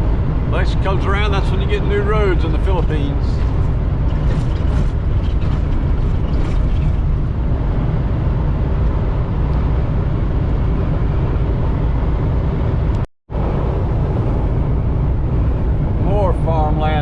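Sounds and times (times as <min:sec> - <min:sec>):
road noise inside cab: 0:00.0 - 0:17.0
truck engine rumble: 0:00.0 - 0:17.0.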